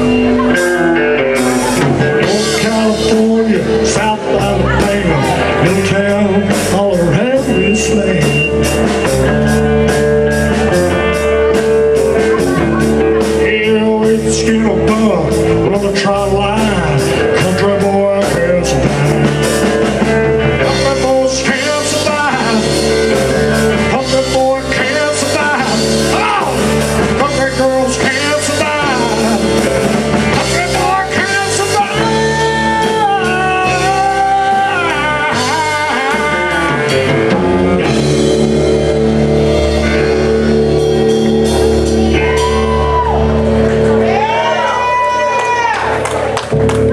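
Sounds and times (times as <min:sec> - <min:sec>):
country band playing: 0:00.0 - 0:46.9
sliding lead guitar melody: 0:00.0 - 0:46.9.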